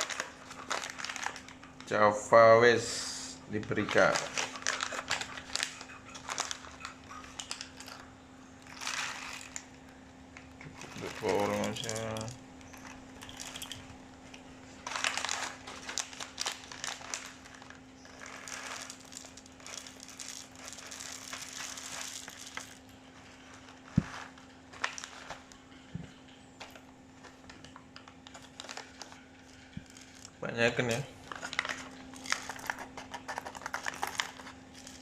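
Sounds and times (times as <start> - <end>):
coffee beans rattling: 0.0 - 2.0, 3.6 - 9.7, 10.6 - 27.6, 28.2 - 35.0.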